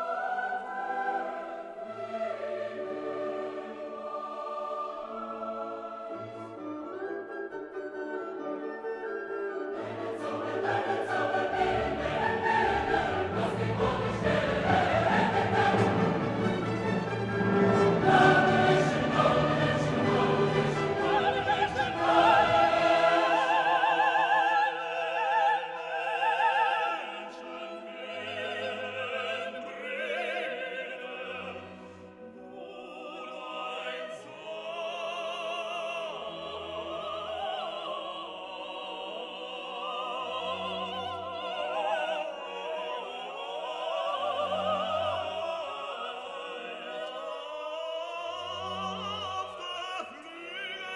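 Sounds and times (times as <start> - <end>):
choral singing with orchestra: 0.0 - 50.9.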